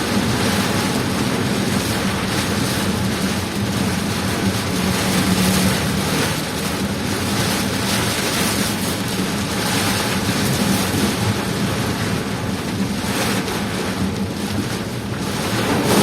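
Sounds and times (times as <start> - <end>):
rain and wind noise: 0.0 - 16.0
vehicle engine and road drone: 0.0 - 16.0.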